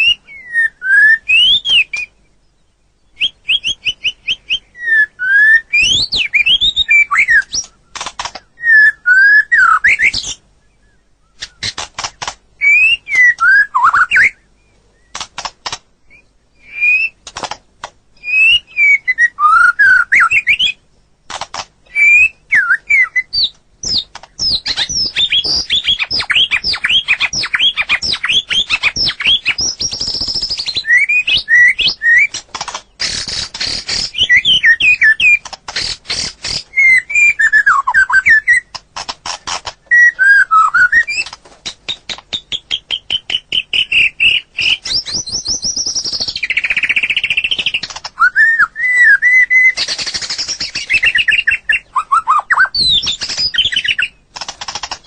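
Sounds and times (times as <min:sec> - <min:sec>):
songbird singing varied song: 0:00.0 - 0:17.5, 0:18.1 - 0:20.9, 0:21.8 - 0:55.0.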